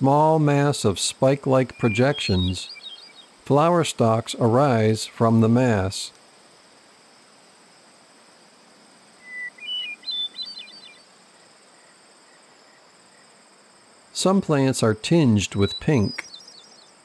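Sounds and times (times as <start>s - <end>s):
songbird singing: 0.0s - 6.4s, 8.8s - 17.0s
faint high insect drone: 0.0s - 17.0s.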